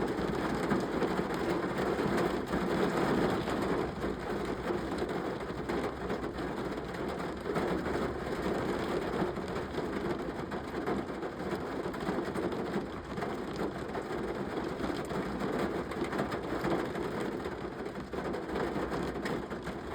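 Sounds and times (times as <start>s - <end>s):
rain falling steadily: 0.0s - 19.9s.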